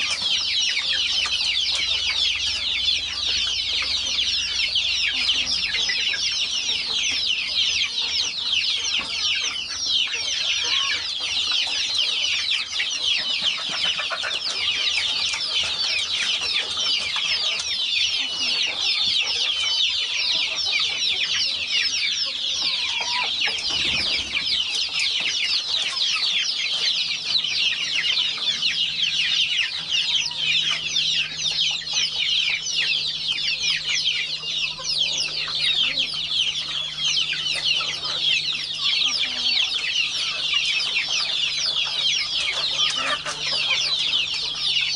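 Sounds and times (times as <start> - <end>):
chickens calling: 0.0 - 44.9.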